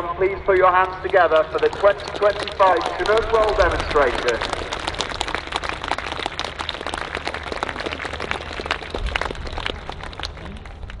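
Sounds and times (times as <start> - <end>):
crowd applauding: 0.6 - 11.0.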